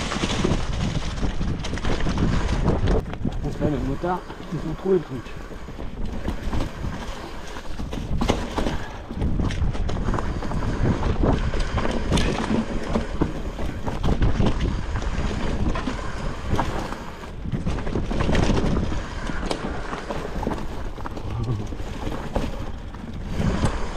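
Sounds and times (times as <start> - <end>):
bike rattling over bumps: 0.0 - 23.9
tyres rolling over dirt and leaves: 0.0 - 23.9
wind rushing over microphone: 0.0 - 23.9.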